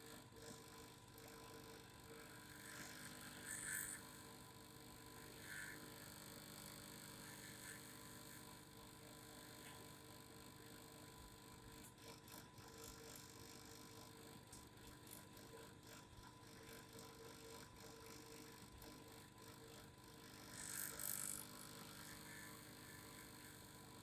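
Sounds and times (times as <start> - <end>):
faint vibrating hum: 0.0 - 24.0.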